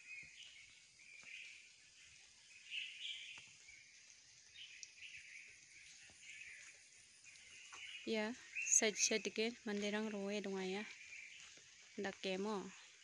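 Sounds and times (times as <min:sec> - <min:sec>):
faint bird chirping: 0:00.0 - 0:13.0
steady outdoor hiss: 0:00.0 - 0:13.0.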